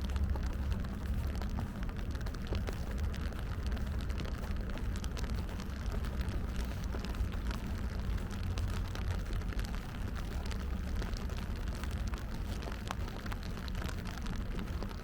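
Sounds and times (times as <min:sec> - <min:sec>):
raindrops ticking: 0:00.0 - 0:15.0
steady low rumble: 0:00.0 - 0:15.0.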